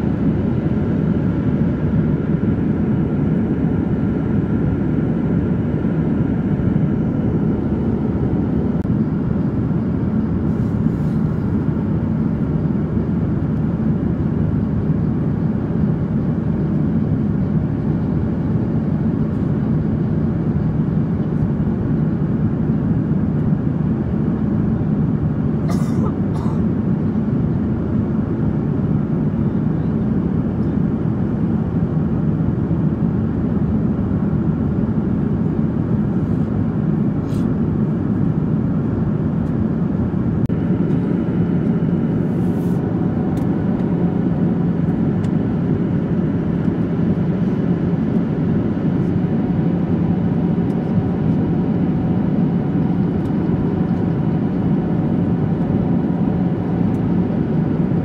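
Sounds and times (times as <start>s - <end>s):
airflow rush in cabin: 0.0s - 58.0s
jet engines droning: 0.0s - 58.0s
low steady hum: 0.0s - 58.0s.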